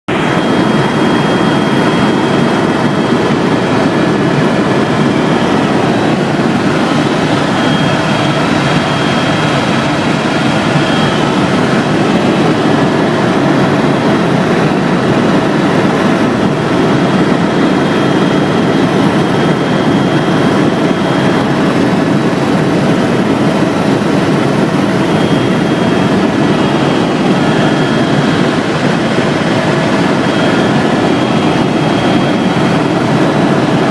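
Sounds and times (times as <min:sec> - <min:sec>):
aircraft engine droning: 0:00.1 - 0:33.9.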